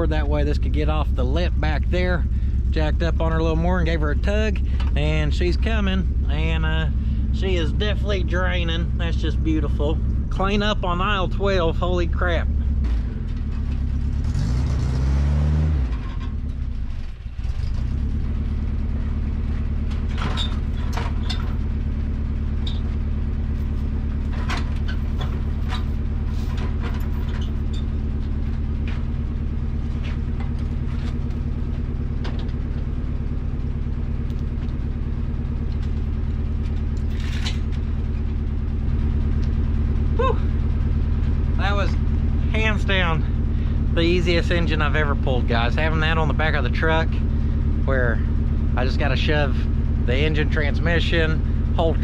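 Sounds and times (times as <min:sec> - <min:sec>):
truck engine idling: 0:00.0 - 0:52.0.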